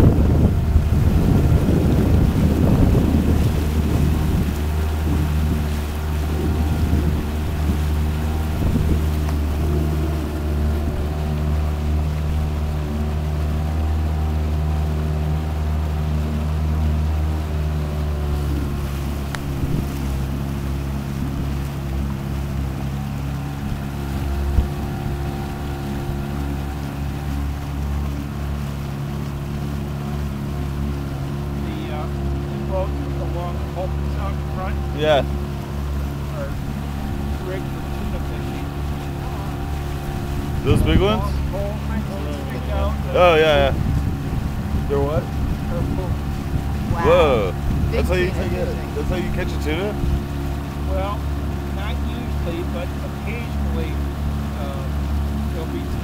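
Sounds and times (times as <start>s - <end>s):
motorboat engine droning: 0.0s - 56.0s
water noise: 0.0s - 56.0s
wind: 0.0s - 56.0s.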